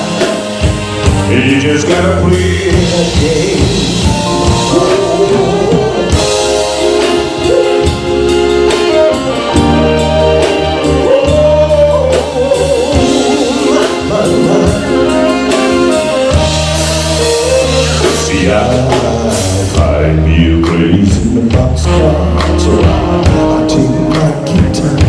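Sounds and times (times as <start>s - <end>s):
drum kit: 0.0s - 25.0s
held bass notes: 0.0s - 25.0s
lead melody bending in pitch: 0.0s - 25.0s.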